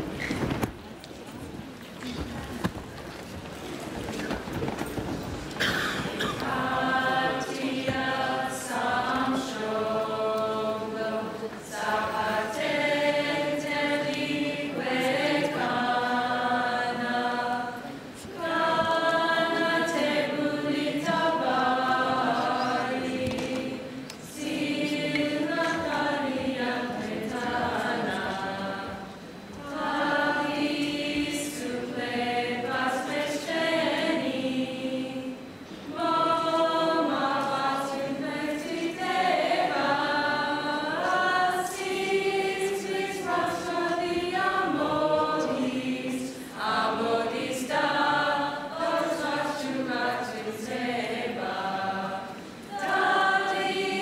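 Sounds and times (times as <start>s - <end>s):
mixed choir singing anthem: 5.6s - 54.0s.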